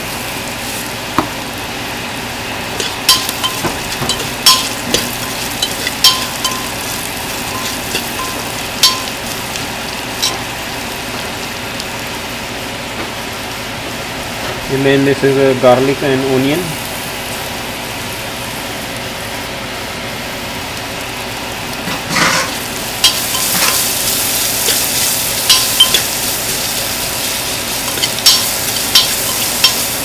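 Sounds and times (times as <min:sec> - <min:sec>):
onions sizzling in hot oil: 0:00.0 - 0:14.4, 0:15.2 - 0:30.0.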